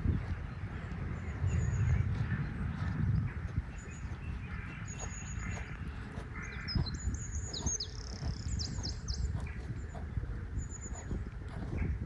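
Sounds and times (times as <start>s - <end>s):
low rumble: 0.0s - 12.0s
small birds chirping: 0.0s - 12.0s.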